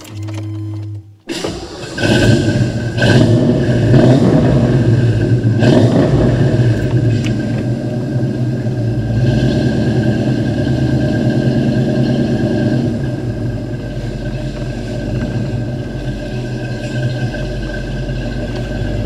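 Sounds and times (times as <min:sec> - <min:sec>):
engine throttle blips: 0:00.0 - 0:19.0
car engine idling loudly: 0:01.3 - 0:19.0.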